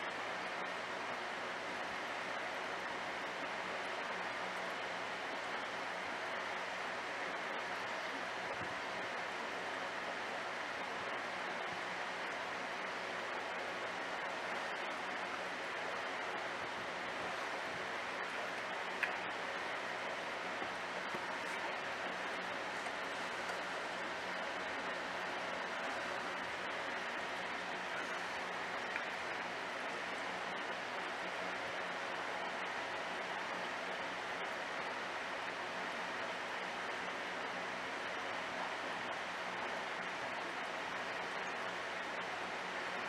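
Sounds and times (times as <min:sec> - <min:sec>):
aquarium water flow hiss: 0:00.0 - 0:43.0
low hum of tank equipment: 0:00.0 - 0:43.0.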